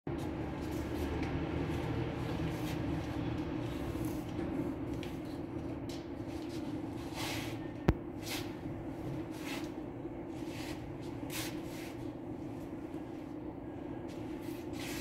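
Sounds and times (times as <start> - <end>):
steady machine hum: 0.1 - 15.0.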